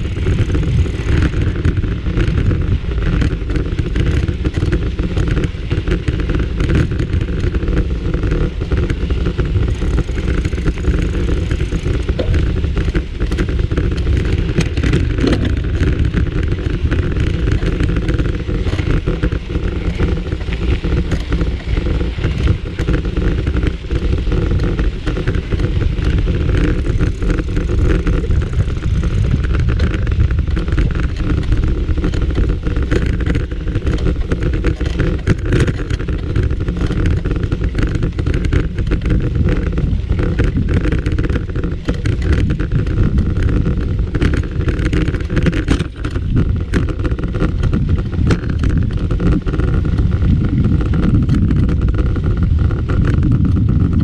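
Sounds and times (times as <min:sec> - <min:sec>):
bike knocking and rattling: 0:00.0 - 0:54.0
bike tyres rolling rumble: 0:00.0 - 0:54.0.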